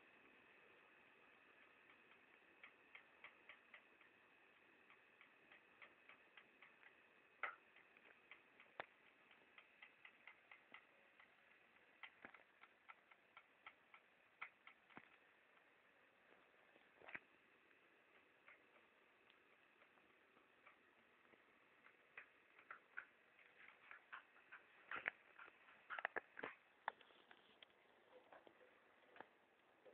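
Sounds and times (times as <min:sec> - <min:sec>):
small irregular clicks: 0:00.0 - 0:29.9.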